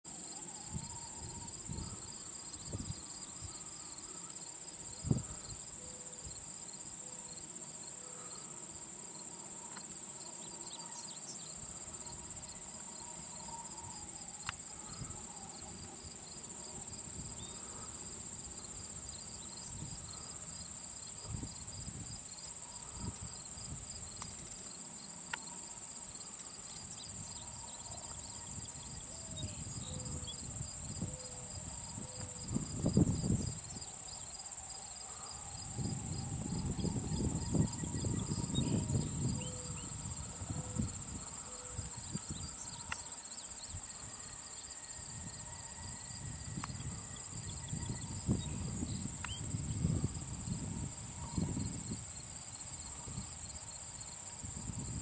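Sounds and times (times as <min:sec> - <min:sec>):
insect chirping: 0:00.0 - 0:55.0
insect buzzing trill: 0:00.1 - 0:55.0.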